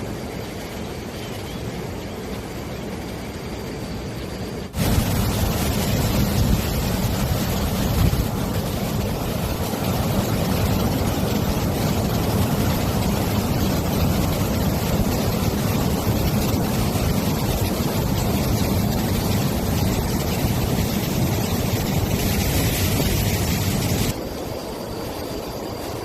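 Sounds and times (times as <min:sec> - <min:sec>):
water rushing: 0:04.7 - 0:25.8.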